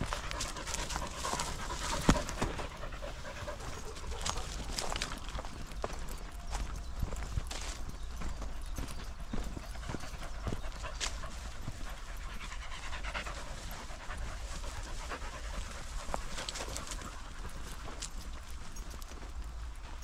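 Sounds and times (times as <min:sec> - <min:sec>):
dog panting: 0:00.0 - 0:20.0
footsteps on dirt path: 0:00.0 - 0:20.0.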